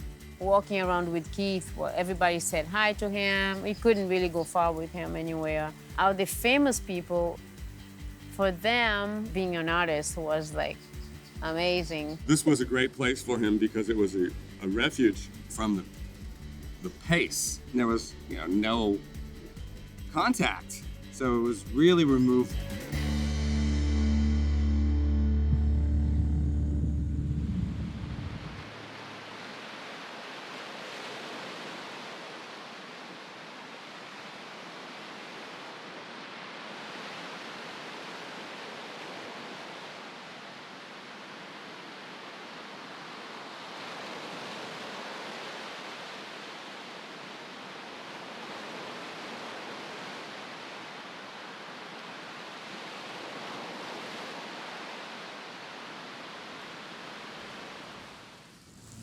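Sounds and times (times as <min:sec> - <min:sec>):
waves breaking: 0:00.0 - 0:23.0, 0:27.2 - 0:59.0.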